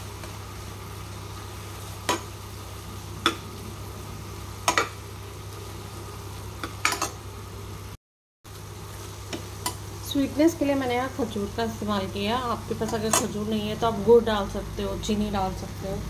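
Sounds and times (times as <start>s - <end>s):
low sizzle: 0.0s - 16.0s.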